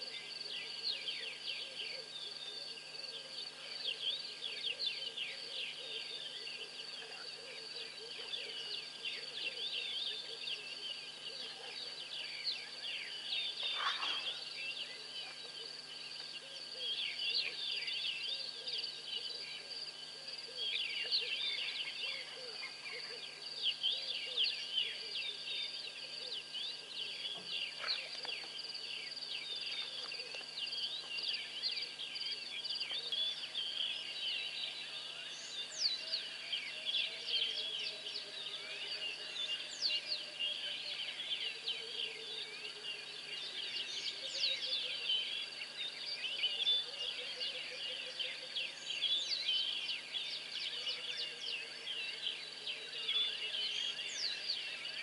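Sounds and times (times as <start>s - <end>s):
crickets trilling: 0.0s - 55.0s
insect chirps: 0.0s - 55.0s.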